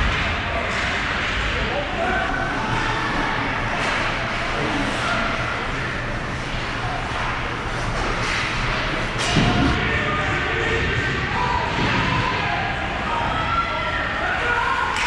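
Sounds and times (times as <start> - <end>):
faint voices: 0.0 - 15.0
ice arena noise: 0.0 - 15.0.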